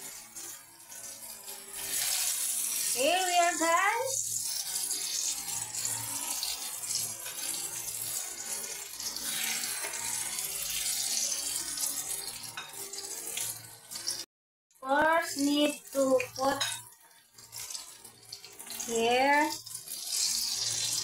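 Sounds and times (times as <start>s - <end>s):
eggplant sizzling in oil: 0.0s - 21.0s.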